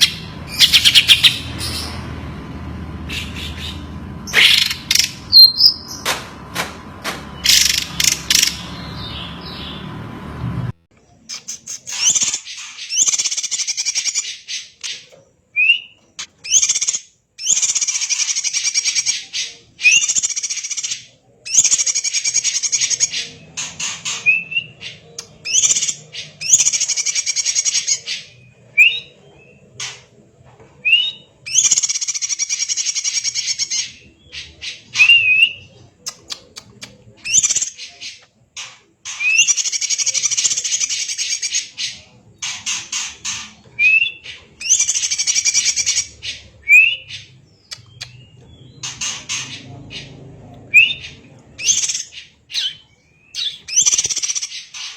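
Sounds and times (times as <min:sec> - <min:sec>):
bird chattering song: 0:00.0 - 0:10.0, 0:11.0 - 0:30.2, 0:30.9 - 0:54.9.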